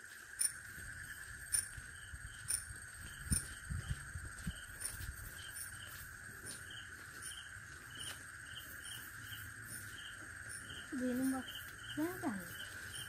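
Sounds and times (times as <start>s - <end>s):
crickets chirping: 0.0s - 13.0s
insects shrill drone: 0.0s - 13.0s.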